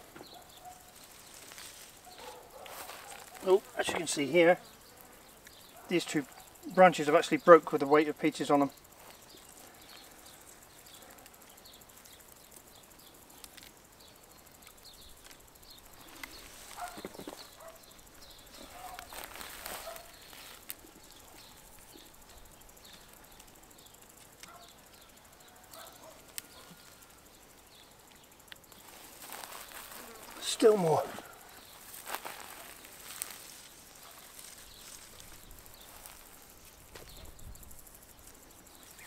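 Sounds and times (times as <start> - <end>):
leaves and branches rustling: 0.0 - 39.0.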